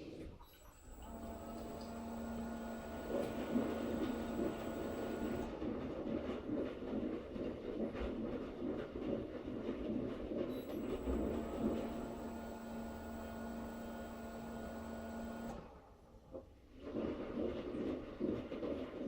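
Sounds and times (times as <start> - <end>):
washing machine running: 0.4 - 16.1.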